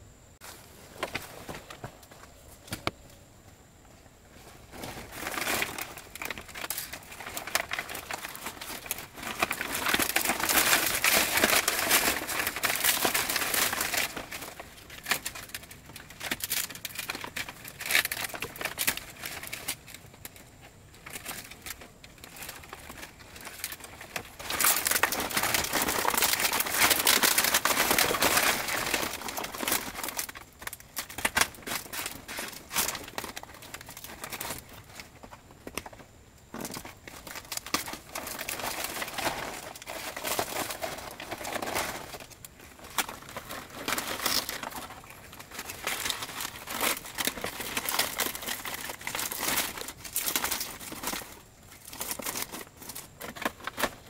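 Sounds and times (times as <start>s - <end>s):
dry leaves rustling and crackling: 4.3s - 54.0s.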